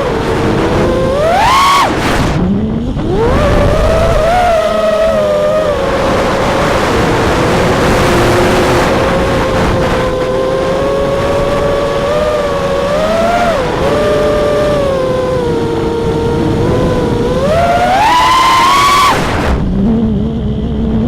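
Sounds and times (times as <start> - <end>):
drone motors whining: 0.0 - 21.0
rushing wind noise: 0.0 - 21.0.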